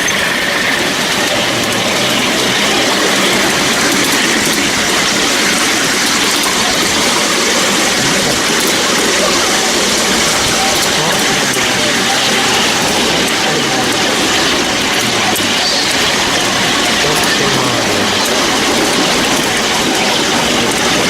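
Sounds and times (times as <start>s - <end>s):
miniature train rumbling on track: 0.0s - 21.0s.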